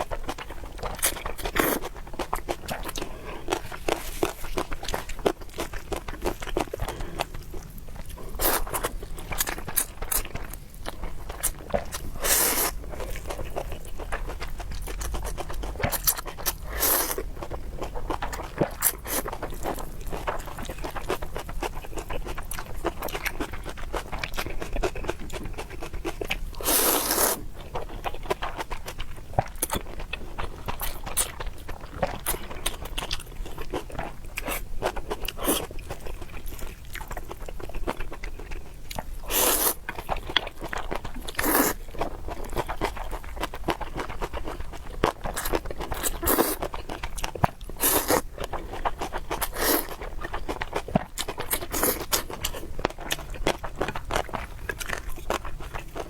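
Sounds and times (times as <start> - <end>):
chewing and biting: 0.0 - 56.0.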